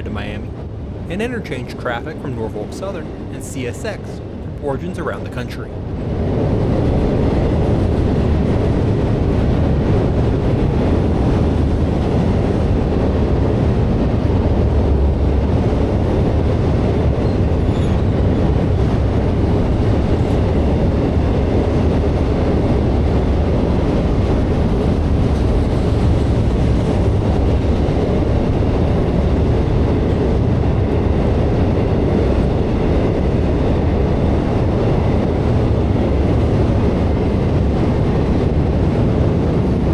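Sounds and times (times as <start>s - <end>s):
freight train wheels rumbling and clacking: 0.0s - 39.9s.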